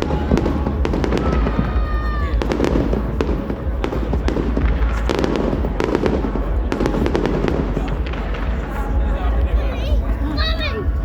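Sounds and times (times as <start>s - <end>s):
dense low rumble: 0.0s - 11.0s
fireworks bangs and crackles: 0.0s - 11.0s.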